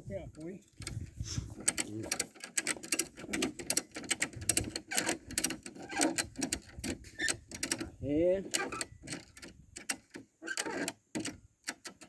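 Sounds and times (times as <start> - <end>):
ratchet strap clicking: 0.4 - 12.0.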